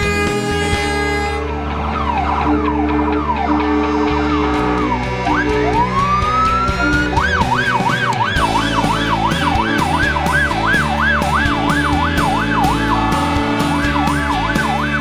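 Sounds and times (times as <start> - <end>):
electronic vehicle siren: 0.0 - 15.0.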